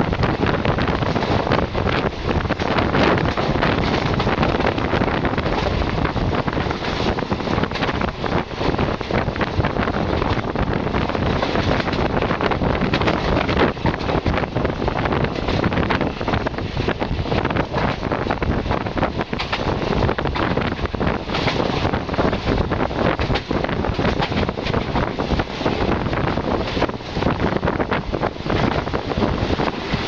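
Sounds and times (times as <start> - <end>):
train running on track: 0.0 - 30.0
wind rushing over microphone: 0.0 - 30.0.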